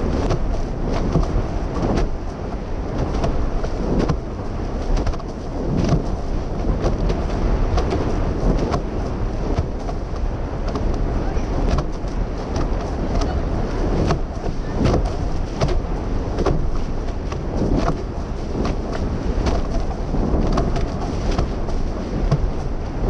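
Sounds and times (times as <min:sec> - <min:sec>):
hulls slapping waves: 0:00.0 - 0:23.0
water rushing along hulls: 0:00.0 - 0:23.0
wind rumble on microphone: 0:00.0 - 0:23.0.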